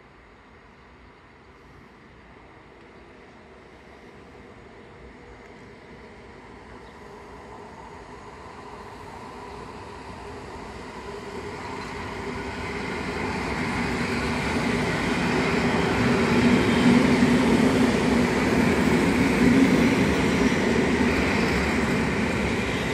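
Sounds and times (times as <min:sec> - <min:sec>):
train drive humming: 0:00.0 - 0:22.9
train wheels rumbling on rails: 0:01.4 - 0:22.9.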